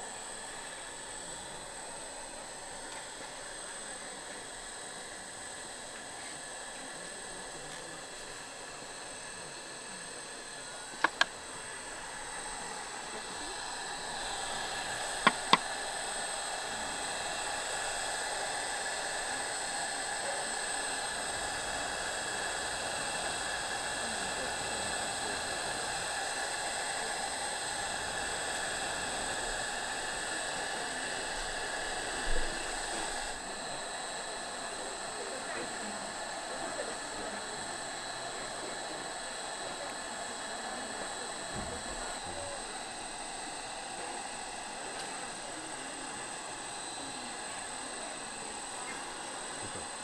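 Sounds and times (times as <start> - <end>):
small electric motor running: 0.0 - 50.0.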